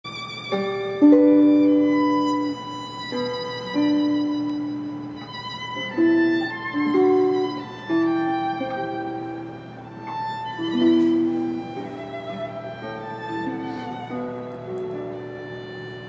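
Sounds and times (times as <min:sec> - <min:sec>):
slow instrumental music: 0:00.1 - 0:16.0.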